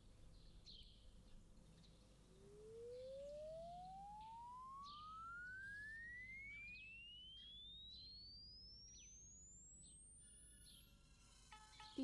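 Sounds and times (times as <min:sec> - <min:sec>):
faint bird chirps: 0:00.0 - 0:12.0
rising whistle-like tone: 0:02.3 - 0:12.0.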